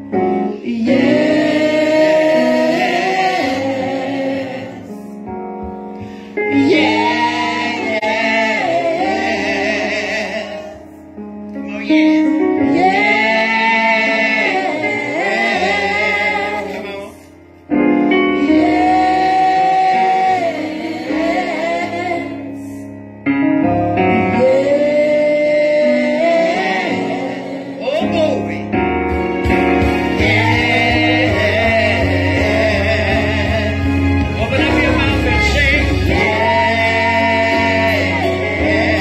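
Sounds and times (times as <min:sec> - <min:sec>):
women singing gospel: 0:00.3 - 0:05.3, 0:06.0 - 0:11.2, 0:11.8 - 0:17.3, 0:18.0 - 0:22.9, 0:24.1 - 0:27.9, 0:29.8 - 0:39.0.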